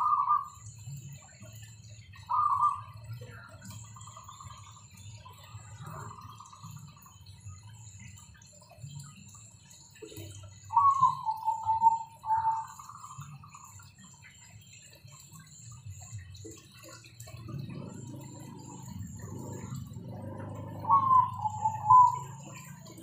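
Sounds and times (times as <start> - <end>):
waterfall pouring into pond: 0.0 - 23.0.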